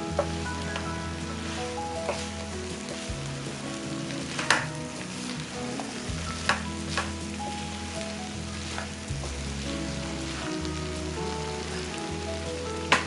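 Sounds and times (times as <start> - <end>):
background music with held notes: 0.0 - 13.0
food sizzling in a pan: 0.0 - 13.0.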